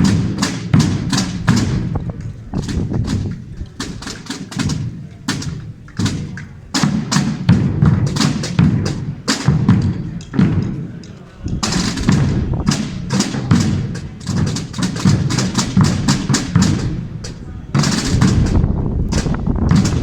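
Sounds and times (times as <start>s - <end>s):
bass drums booming: 0.0s - 20.0s
snare drums marching rhythm: 0.0s - 20.0s.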